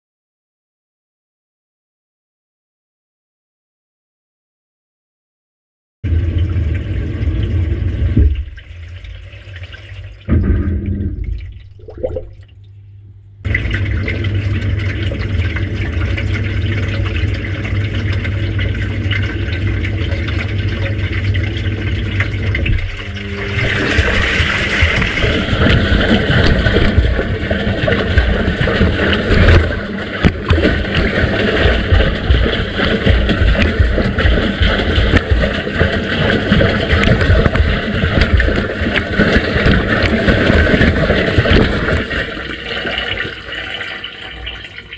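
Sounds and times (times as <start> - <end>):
washing machine motor running: 6.0 - 12.5, 13.4 - 44.9
water and laundry sloshing: 6.1 - 12.8, 13.4 - 44.9.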